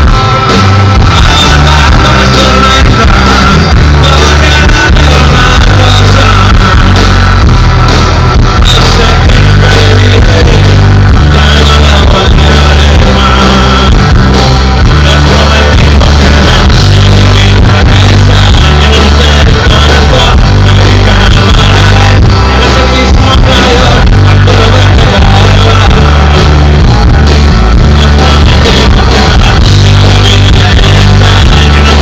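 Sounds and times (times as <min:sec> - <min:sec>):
person singing: 0:00.0 - 0:32.0
rock band playing live: 0:00.0 - 0:32.0.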